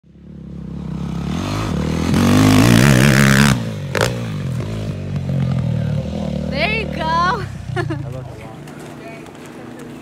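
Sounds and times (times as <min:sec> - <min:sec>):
dirt bike engine revving: 0:00.1 - 0:08.2.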